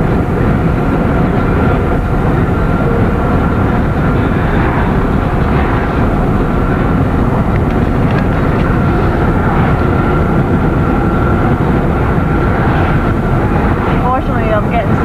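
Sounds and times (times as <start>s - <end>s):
faint high whine: 0.0s - 15.0s
road and wind noise in car: 0.0s - 15.0s.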